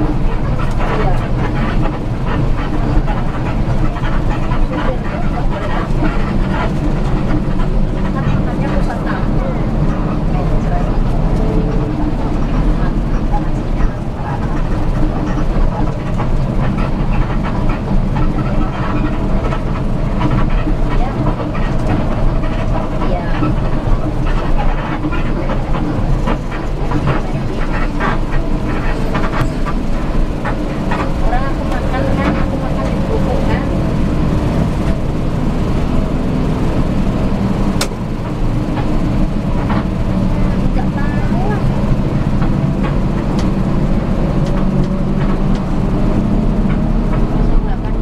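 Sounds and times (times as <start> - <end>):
faint voices: 0.0 - 48.0
vehicle rumble: 0.0 - 48.0.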